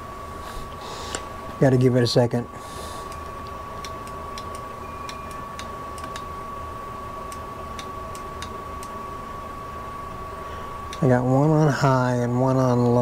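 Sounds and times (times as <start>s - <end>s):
high-pitched electrical whine: 0.0s - 13.0s.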